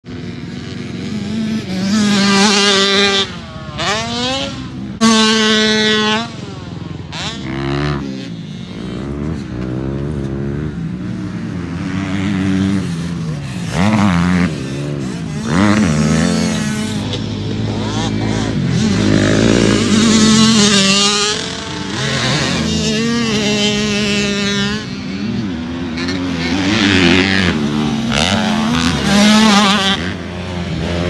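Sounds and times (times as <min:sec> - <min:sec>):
dirt bike engines revving: 0:00.1 - 0:31.0.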